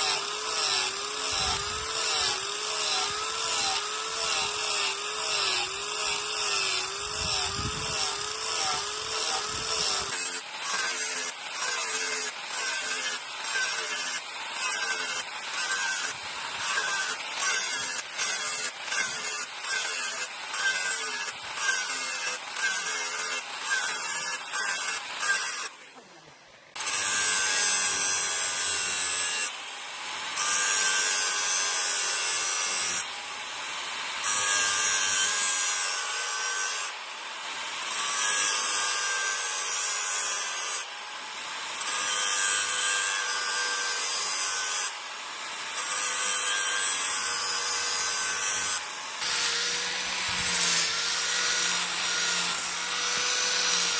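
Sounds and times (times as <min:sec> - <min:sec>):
grinder on steel blade: 0:00.0 - 0:53.9.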